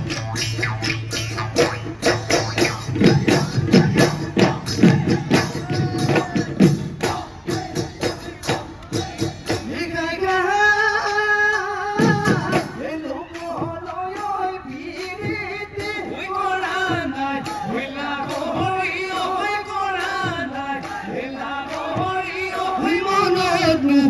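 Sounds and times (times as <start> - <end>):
jingling percussion: 0.0 - 10.3, 11.0 - 24.0
fast drumming: 0.0 - 10.4, 11.8 - 24.0.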